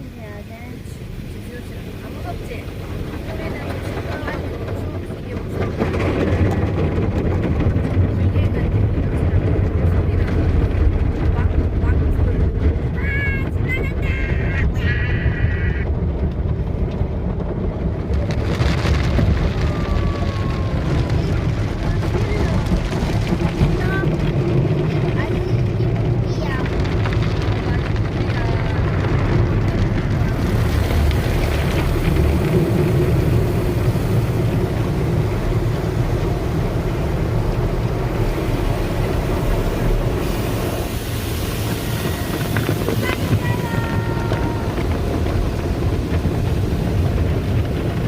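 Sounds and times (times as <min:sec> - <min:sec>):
water spray hissing on car: 0:00.0 - 0:12.4, 0:18.0 - 0:48.0
car wash low rumble: 0:00.0 - 0:48.0.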